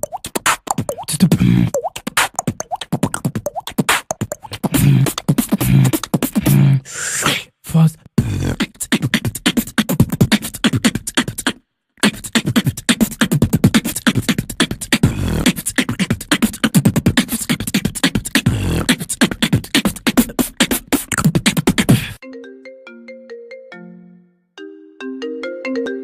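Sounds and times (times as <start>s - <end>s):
person beatboxing: 0.0s - 22.2s.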